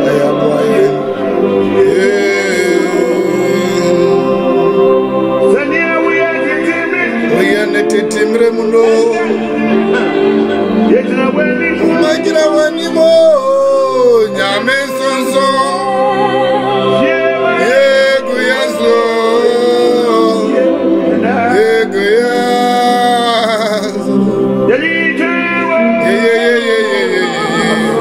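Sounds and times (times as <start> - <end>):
man singing gospel song: 0.0 - 4.8, 5.4 - 28.0
sustained backing music: 0.0 - 28.0.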